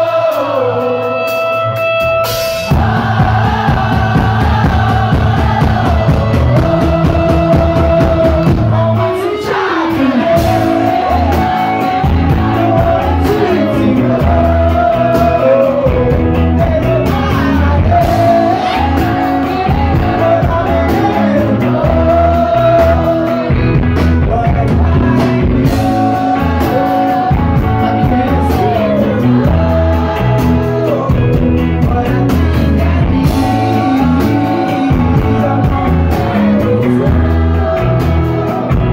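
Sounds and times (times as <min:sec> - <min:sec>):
man singing: 0:00.0 - 0:02.0, 0:02.6 - 0:38.9
live rock band playing: 0:00.0 - 0:38.9.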